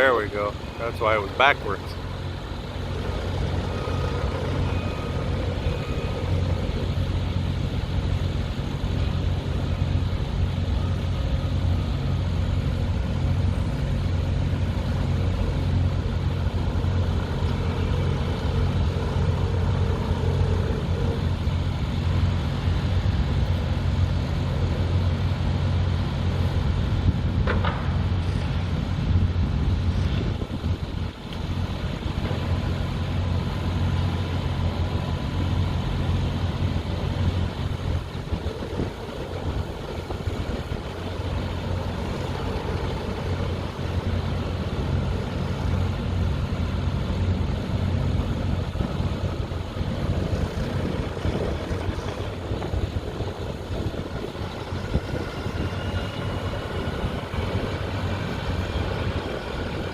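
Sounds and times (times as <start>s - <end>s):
heavy engines rumbling: 0.0s - 59.9s.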